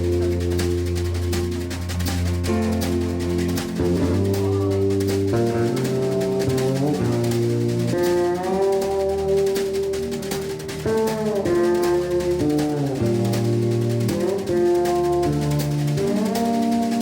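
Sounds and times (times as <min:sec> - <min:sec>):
electric bass: 0:00.0 - 0:17.0
keyboards: 0:00.0 - 0:17.0
sliding lead melody: 0:00.0 - 0:17.0
steady drum pattern: 0:00.0 - 0:17.0.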